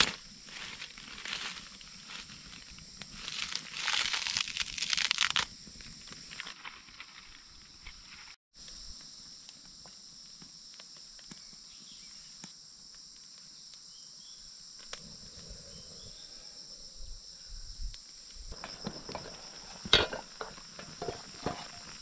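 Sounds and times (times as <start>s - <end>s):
forest insects chorus: 0.0s - 22.0s.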